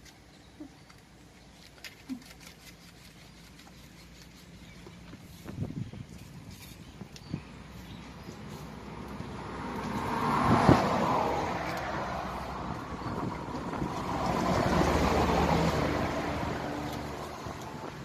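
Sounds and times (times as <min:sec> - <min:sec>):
motor vehicles passing: 0:00.1 - 0:18.0.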